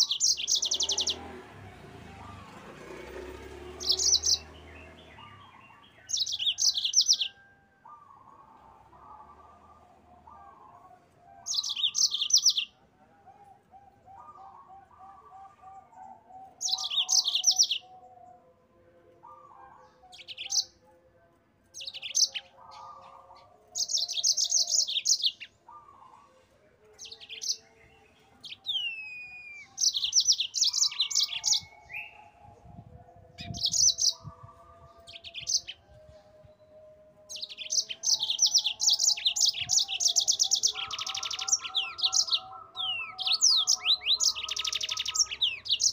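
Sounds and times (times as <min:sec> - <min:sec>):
canary trilling song: 0:00.0 - 0:18.6, 0:19.2 - 0:20.8, 0:21.6 - 0:26.2, 0:26.9 - 0:45.9.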